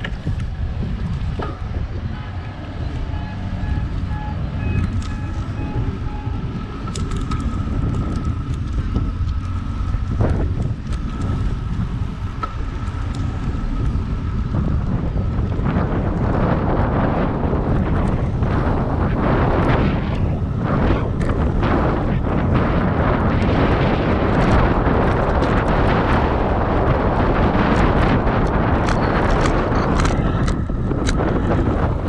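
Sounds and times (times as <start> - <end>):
street traffic: 0.0 - 32.0
wind rumble on microphone: 0.0 - 32.0.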